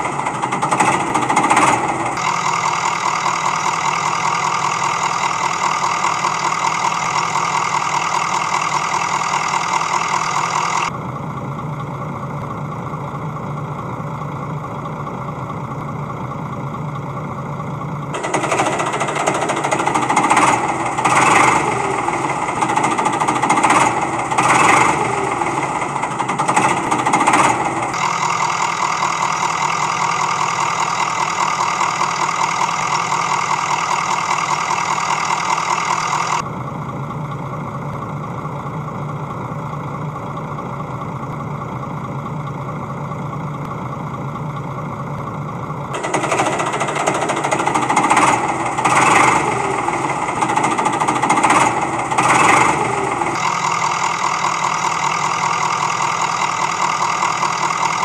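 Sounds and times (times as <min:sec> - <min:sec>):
truck engine knocking and revving: 0:00.0 - 0:58.0.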